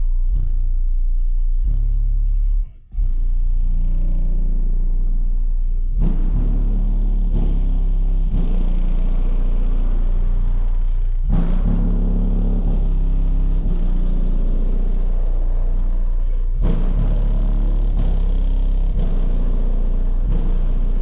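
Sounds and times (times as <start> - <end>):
subwoofers playing deep bass notes: 0.0 - 21.0.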